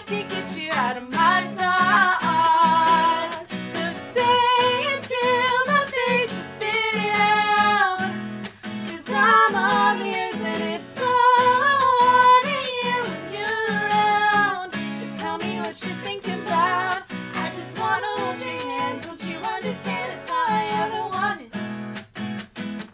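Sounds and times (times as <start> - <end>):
women singing together: 0.0 - 8.2, 8.8 - 21.5
strummed acoustic guitar: 0.0 - 22.9.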